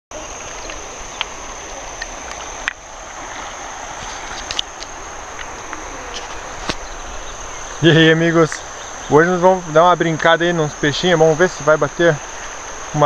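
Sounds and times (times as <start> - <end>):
insects trilling: 0.1 - 13.0
rushing hiss: 0.1 - 13.0.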